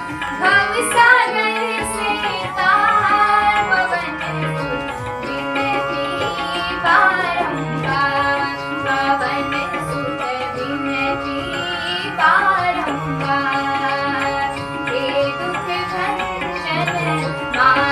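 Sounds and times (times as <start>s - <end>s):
devotional instrumental melody: 0.0s - 17.9s
percussion: 0.0s - 17.9s.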